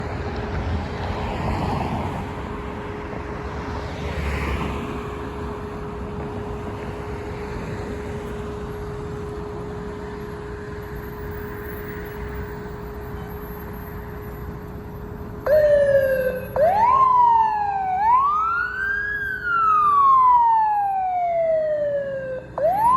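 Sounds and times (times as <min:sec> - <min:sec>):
passing vehicles rushing: 0:00.0 - 0:22.9.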